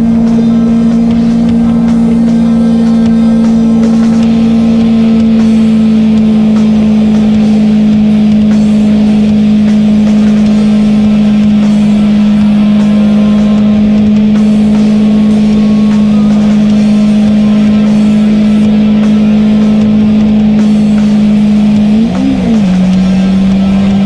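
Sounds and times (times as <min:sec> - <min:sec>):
motorcycle engine drone: 0:00.0 - 0:24.0.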